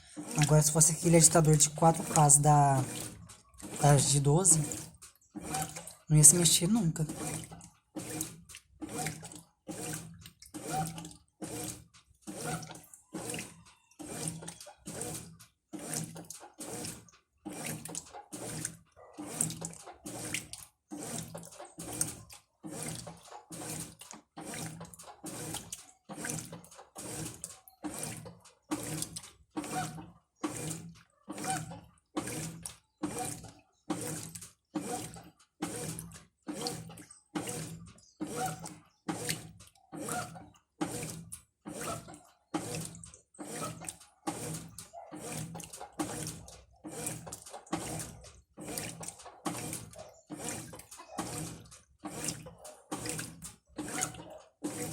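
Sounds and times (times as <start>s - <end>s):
washing machine agitator swishing: 0.0s - 54.9s
water sloshing: 0.0s - 54.9s.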